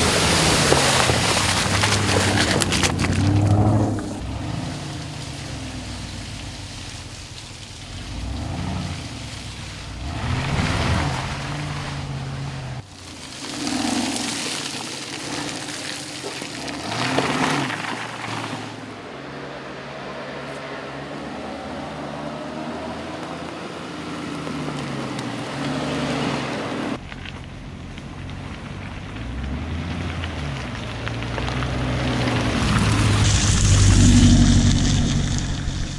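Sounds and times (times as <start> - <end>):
car engine revving: 0.0 - 27.0, 28.2 - 35.9
tyre and road noise: 0.0 - 35.9.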